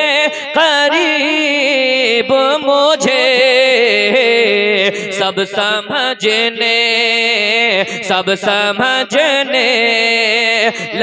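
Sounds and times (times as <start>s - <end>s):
man singing unaccompanied: 0.0s - 11.0s.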